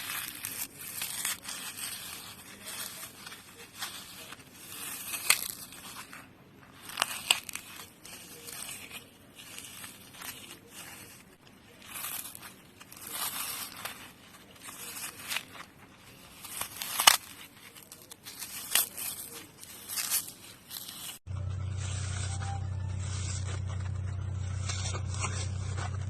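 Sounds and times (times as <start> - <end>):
floral foam crunching: 0.0 - 26.0.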